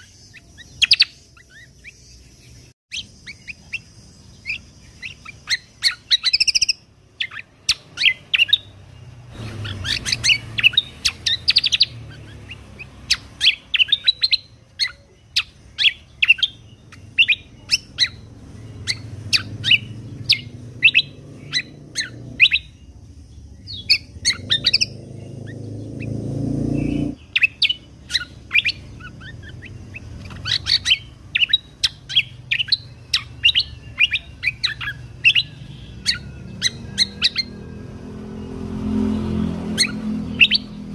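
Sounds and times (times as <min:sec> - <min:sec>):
songbird chirping: 0:00.0 - 0:40.9.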